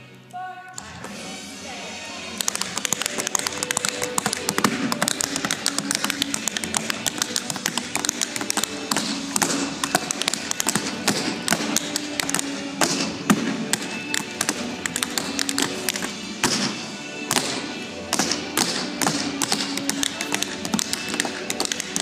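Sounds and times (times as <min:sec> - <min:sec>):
music playing: 0:00.0 - 0:22.0
tap shoes on stage floor: 0:02.4 - 0:22.0.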